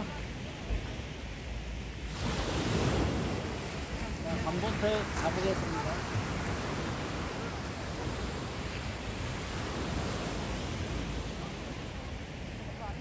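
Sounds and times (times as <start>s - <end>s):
surf breaking on sandy beach: 0.0s - 13.0s.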